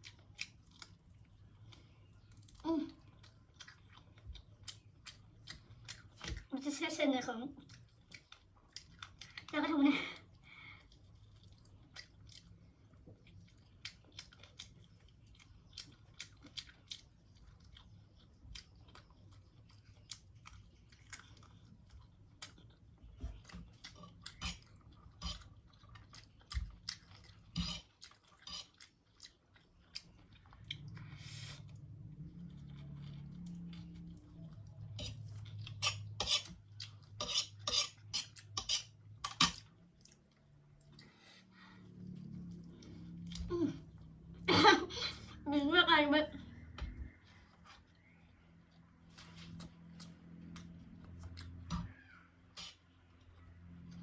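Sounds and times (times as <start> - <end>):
person chewing noodles: 0.0 - 6.5, 7.6 - 44.5, 46.5 - 54.0.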